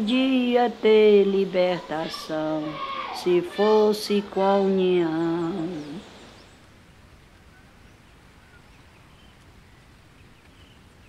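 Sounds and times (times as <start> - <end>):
low rumble and hiss: 0.0 - 11.0
faint bird chirps: 2.1 - 11.0.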